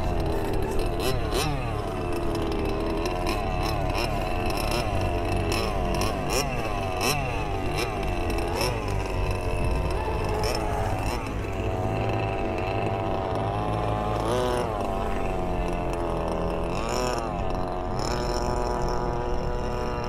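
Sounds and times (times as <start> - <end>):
toy speedboat motor: 0.0 - 20.0.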